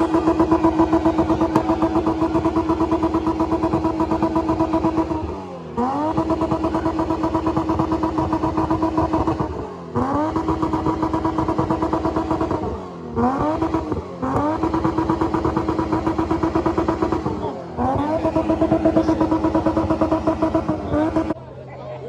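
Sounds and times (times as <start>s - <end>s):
car engine revving at limiter: 0.0s - 21.4s.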